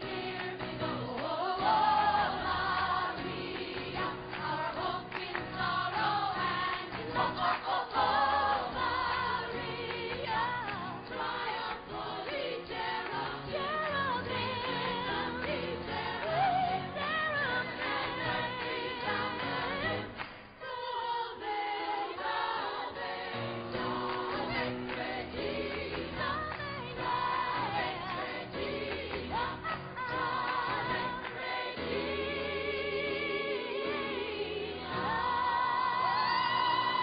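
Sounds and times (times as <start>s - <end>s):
choir singing with vibrato: 0.0s - 37.0s.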